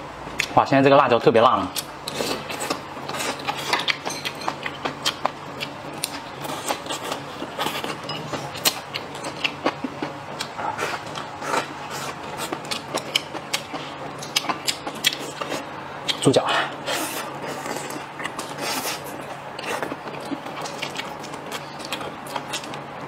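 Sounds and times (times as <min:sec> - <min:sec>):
person chewing with wet clicks: 0:00.4 - 0:00.6, 0:01.7 - 0:16.3, 0:17.5 - 0:22.8.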